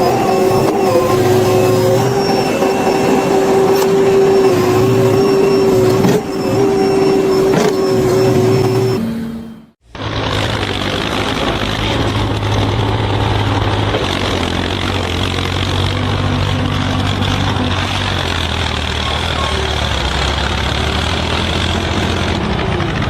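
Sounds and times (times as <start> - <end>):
large engine running: 0.0 - 23.0.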